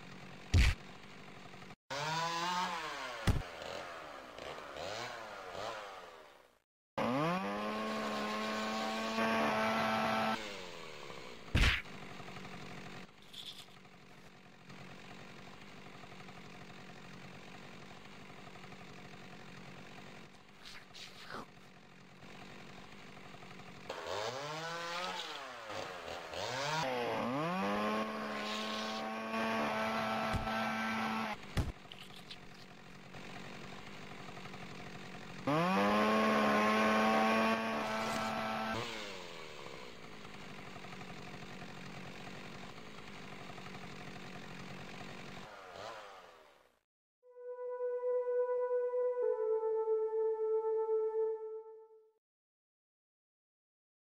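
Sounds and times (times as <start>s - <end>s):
chainsaw revving: 0.0s - 46.8s.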